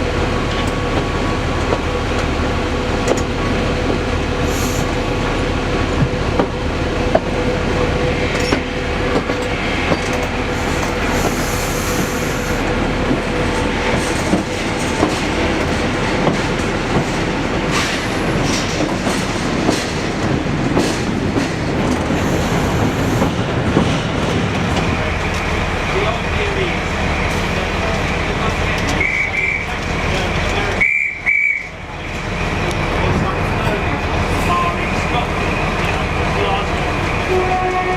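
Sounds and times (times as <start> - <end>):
train rumbling on track: 0.0 - 37.9.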